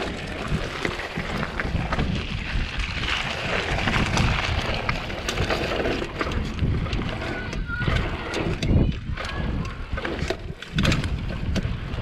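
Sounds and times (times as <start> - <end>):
bike rattling over ground: 0.0 - 12.0
wind buffeting microphone: 0.0 - 12.0.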